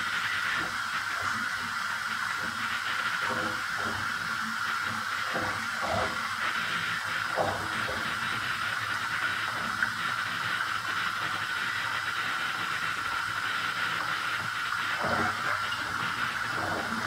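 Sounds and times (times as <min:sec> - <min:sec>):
water pouring into bathtub: 0:00.0 - 0:17.0.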